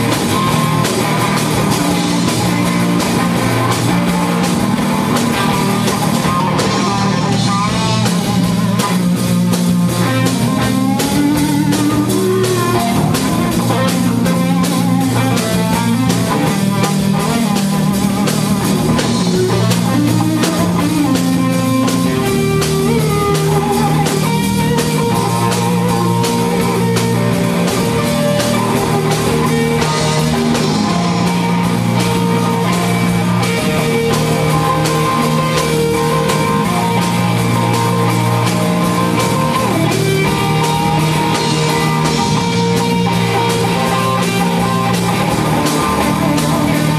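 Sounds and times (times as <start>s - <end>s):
drum kit: 0.0s - 46.9s
electric guitar: 0.0s - 46.9s.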